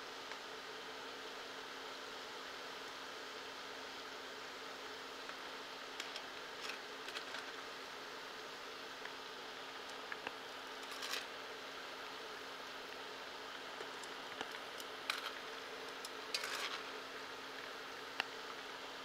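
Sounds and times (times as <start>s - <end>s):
meat deep-frying in oil: 0.1s - 19.0s.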